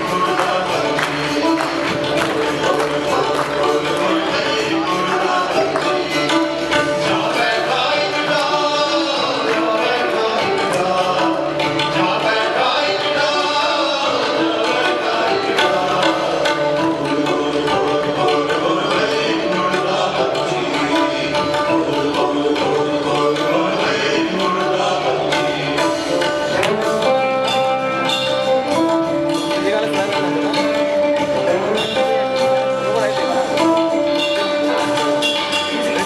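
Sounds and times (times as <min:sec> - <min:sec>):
live band music: 0:00.0 - 0:36.0.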